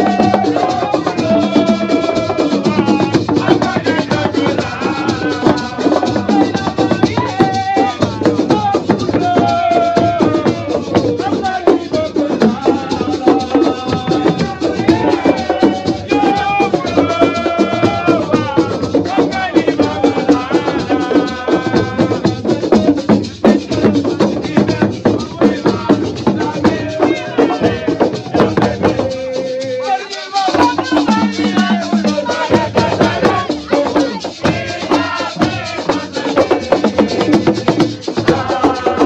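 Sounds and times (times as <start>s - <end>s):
fast rattling percussion: 0.0s - 39.0s
hand drums: 0.0s - 39.0s
young man singing held notes: 0.0s - 39.0s.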